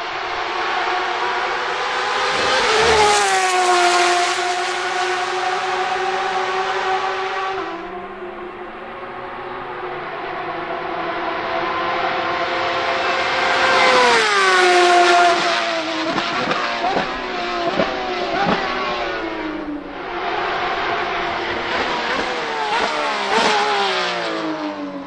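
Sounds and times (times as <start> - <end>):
race car passing by: 0.0 - 25.0.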